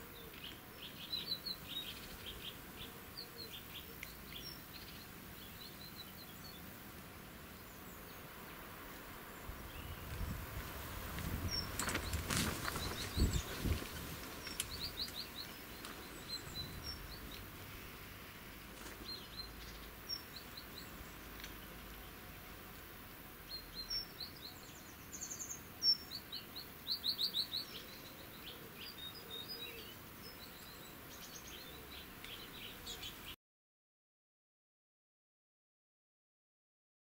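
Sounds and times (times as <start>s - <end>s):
birds twittering: 0.0s - 8.4s, 9.2s - 22.2s, 23.4s - 33.4s
small birds chirping: 0.0s - 33.4s.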